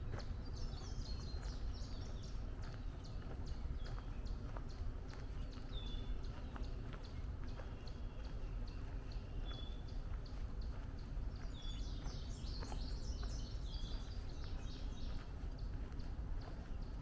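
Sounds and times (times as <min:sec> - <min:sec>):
birds singing: 0:00.0 - 0:17.0
footsteps on trail: 0:00.0 - 0:17.0.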